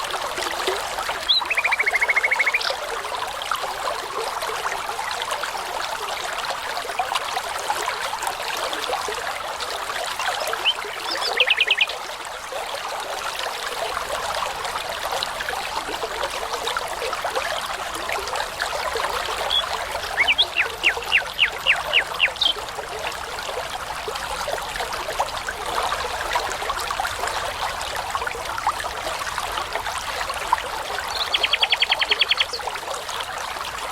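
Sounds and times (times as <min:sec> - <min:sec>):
brook babbling: 0:00.0 - 0:33.9.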